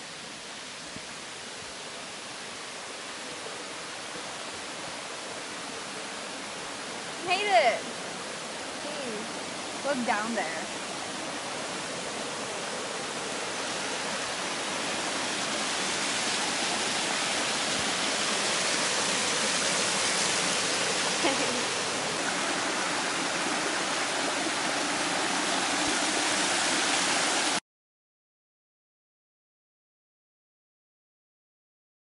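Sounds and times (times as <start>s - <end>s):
water rushing over rocky cascade: 0.0s - 27.6s.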